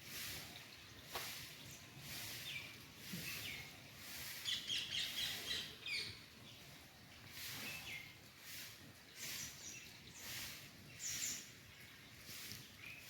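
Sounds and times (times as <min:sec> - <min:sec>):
birds chirping: 0:01.0 - 0:13.0.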